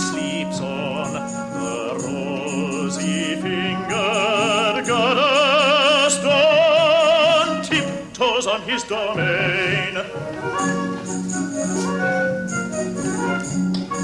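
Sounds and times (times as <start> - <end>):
high voice singing with vibrato: 0.0 - 12.5.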